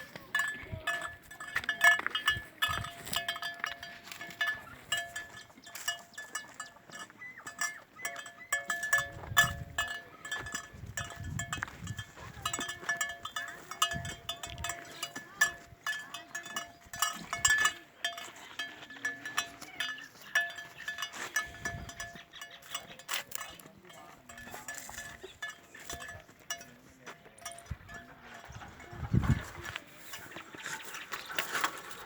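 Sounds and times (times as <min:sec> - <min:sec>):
light clicks and clinks: 0:00.0 - 0:32.0.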